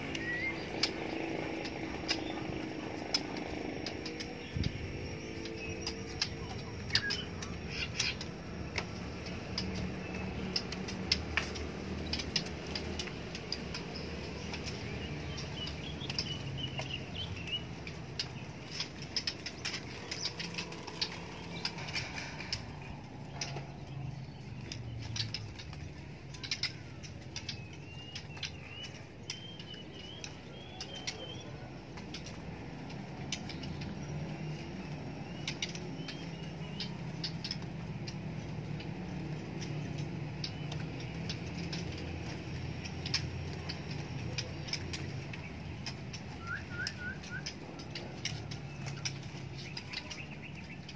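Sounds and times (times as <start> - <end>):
birds chirping: 0.0 - 50.9
low background hum: 0.0 - 50.9
sharp clicks in cages: 0.0 - 50.9.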